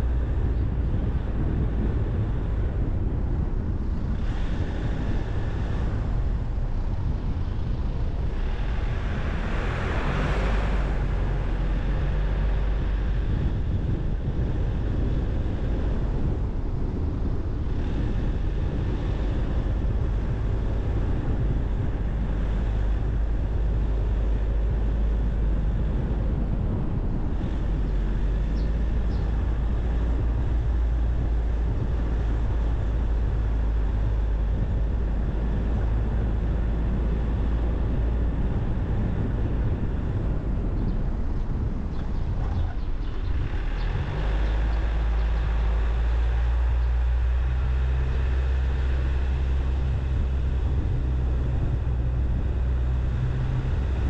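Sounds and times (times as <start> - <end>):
car engine rumble: 0.0 - 54.0
low hum: 0.0 - 54.0.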